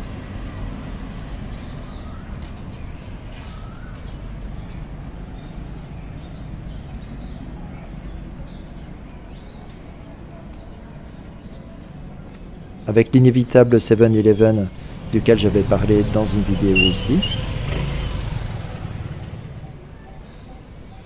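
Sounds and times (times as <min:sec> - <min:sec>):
low street rumble: 0:00.0 - 0:21.0
small birds chirping: 0:00.0 - 0:21.0.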